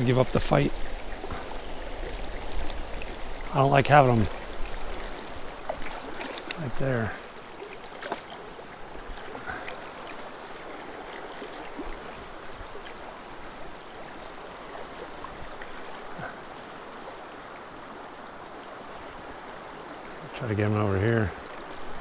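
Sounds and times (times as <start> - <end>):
river flowing over rocks: 0.0 - 22.0.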